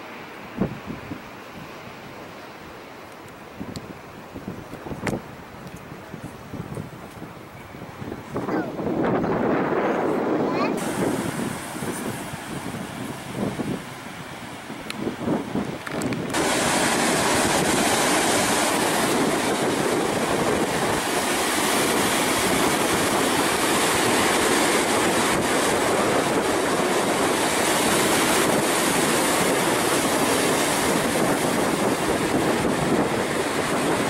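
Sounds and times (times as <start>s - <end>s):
wind on microphone: 0.0s - 2.2s, 3.4s - 34.0s
ocean surf roaring: 0.0s - 34.0s.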